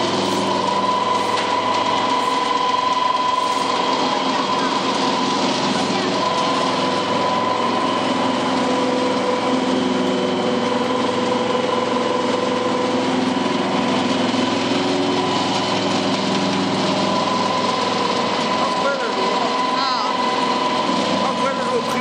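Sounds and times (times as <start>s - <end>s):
pellet mill droning and whining: 0.0s - 22.0s.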